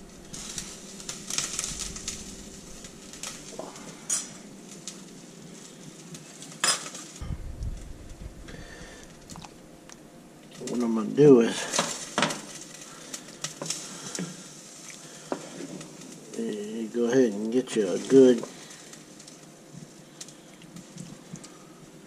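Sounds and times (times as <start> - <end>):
rustling handling noise: 0.0 - 22.0.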